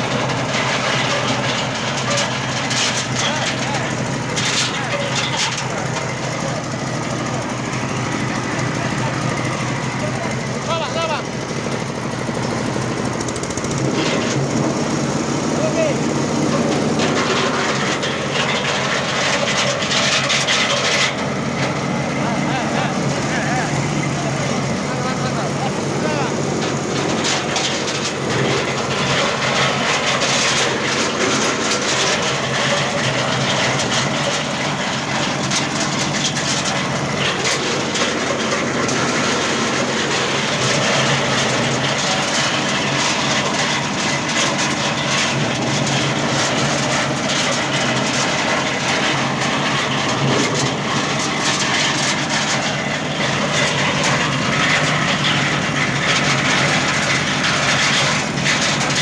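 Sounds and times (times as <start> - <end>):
nuts rattling and scraping: 0.0 - 59.0.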